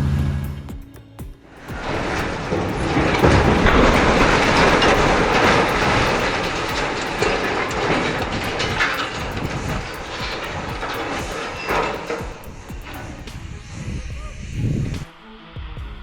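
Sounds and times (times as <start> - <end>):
heavy machinery rumbling with clatter: 1.5 - 15.1.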